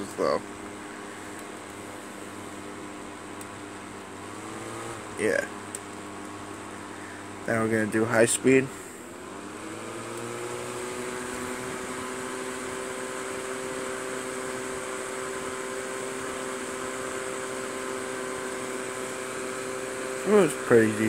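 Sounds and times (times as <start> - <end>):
box fan motor hum: 0.0 - 21.0
whoosh of fan air: 0.0 - 21.0.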